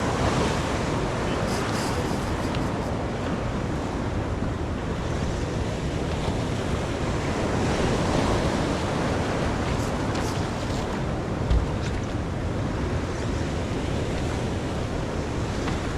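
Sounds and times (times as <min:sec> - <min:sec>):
ocean surf: 0:00.0 - 0:15.9
wind blowing across microphone: 0:00.0 - 0:15.9.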